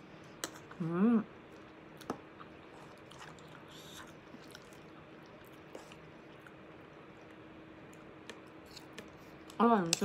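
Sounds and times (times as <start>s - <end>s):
faint chewing: 1.5s - 9.6s.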